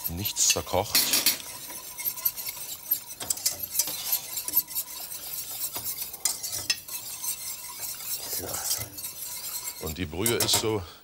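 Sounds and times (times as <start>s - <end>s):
metal spoon clinking on pot: 0.1s - 10.7s.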